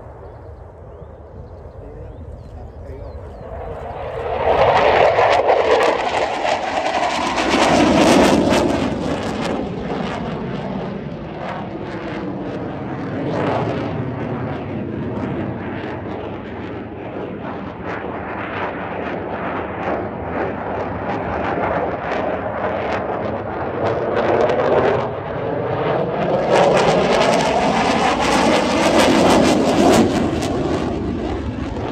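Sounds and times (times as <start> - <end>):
jet engine roaring: 0.0 - 31.9.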